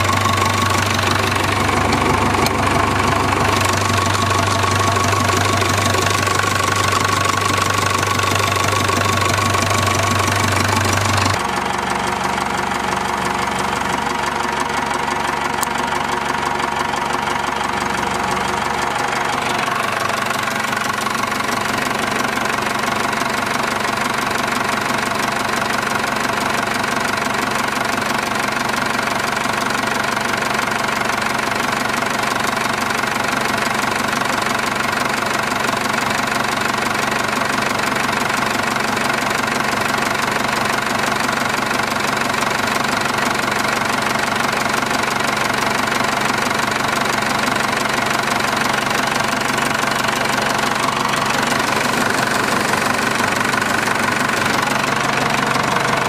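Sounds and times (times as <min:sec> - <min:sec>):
diesel tractor engine idling: 0:00.0 - 0:56.0.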